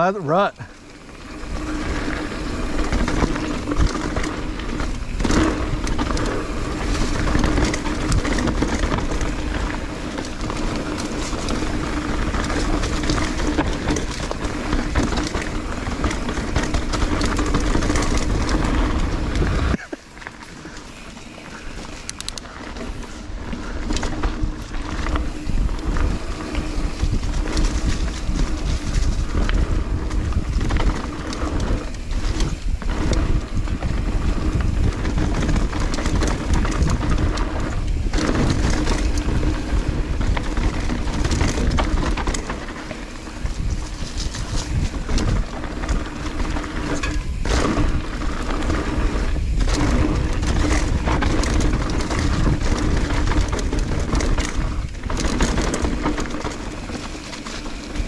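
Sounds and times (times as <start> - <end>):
tyres rolling over dirt: 0.0 - 58.0
wind buffeting microphone: 0.6 - 19.8, 20.7 - 58.0
bike clattering over bumps: 0.6 - 58.0.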